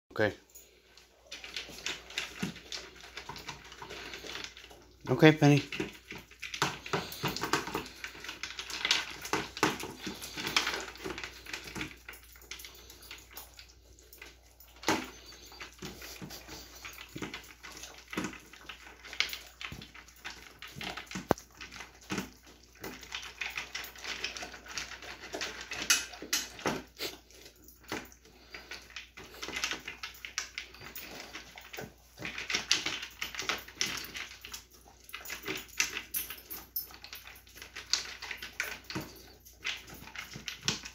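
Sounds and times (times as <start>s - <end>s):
kibble rattling in plastic bowl: 0.2s - 40.9s.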